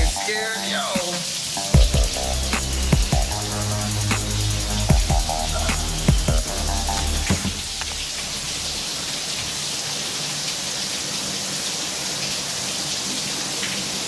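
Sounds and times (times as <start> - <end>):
shower water spraying: 0.0 - 14.0.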